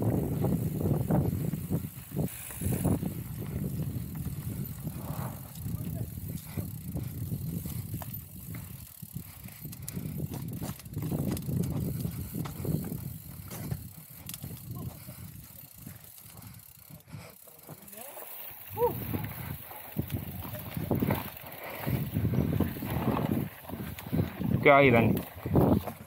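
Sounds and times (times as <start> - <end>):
bike chain and frame rattling: 0.0 - 26.0
bike tyre rumble on dirt: 0.0 - 26.0.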